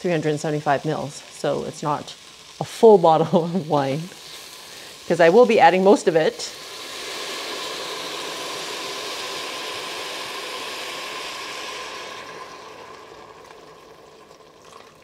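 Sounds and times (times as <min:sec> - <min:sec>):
wine hissing in hot pot: 0:00.0 - 0:15.0.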